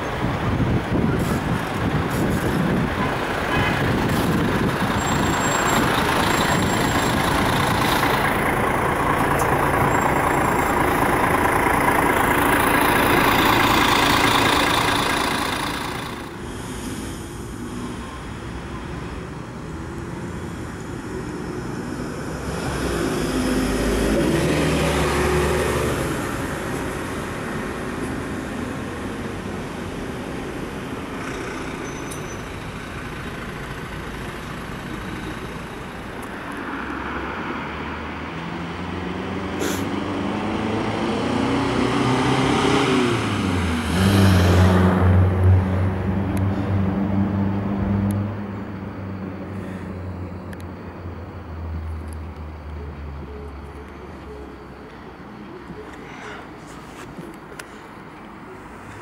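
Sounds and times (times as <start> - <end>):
heavy engine running close: 0.0 - 18.7, 19.3 - 51.9
vehicles passing on street: 0.0 - 59.0.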